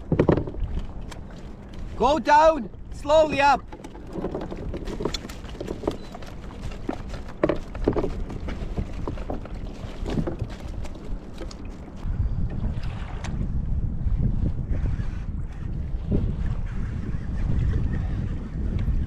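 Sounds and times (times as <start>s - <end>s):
water lapping against kayak hull: 0.0s - 19.0s
wind on microphone: 0.0s - 19.0s.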